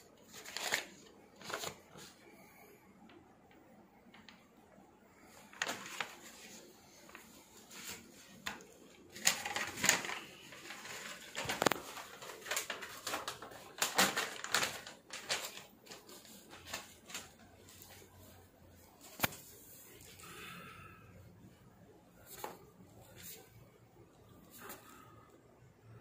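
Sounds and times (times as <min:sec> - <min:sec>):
banknotes rustling: 0:00.2 - 0:02.5, 0:05.2 - 0:20.8, 0:22.1 - 0:25.3.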